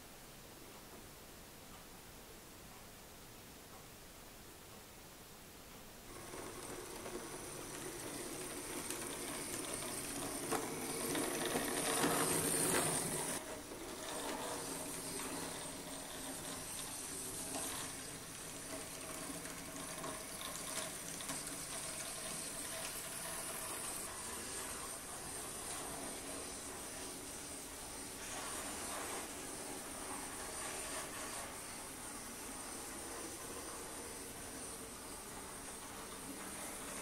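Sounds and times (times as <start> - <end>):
model locomotive motor whine: 6.1 - 37.0.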